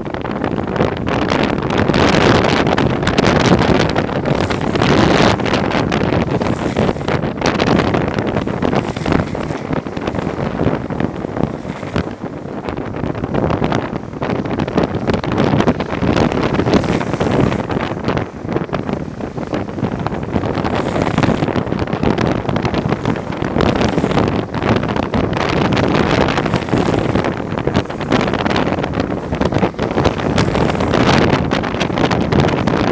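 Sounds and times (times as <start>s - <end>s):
longboard wheels rolling on asphalt: 0.0s - 32.9s
wind buffeting microphone: 0.0s - 32.9s.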